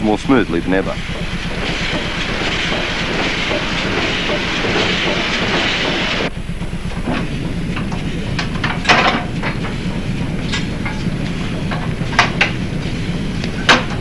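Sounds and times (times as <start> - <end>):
loud steam hiss: 0.0 - 14.0
steam engine beat: 0.0 - 14.0.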